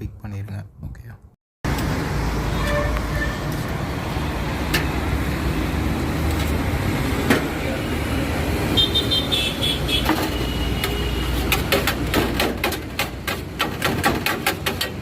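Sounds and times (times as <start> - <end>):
low traffic rumble: 0.8 - 15.0.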